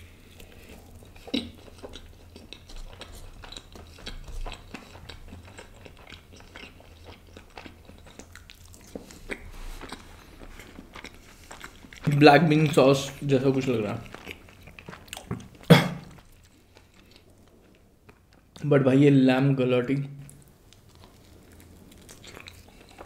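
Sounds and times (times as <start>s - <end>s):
person chewing food: 0.0s - 18.6s, 20.2s - 23.0s.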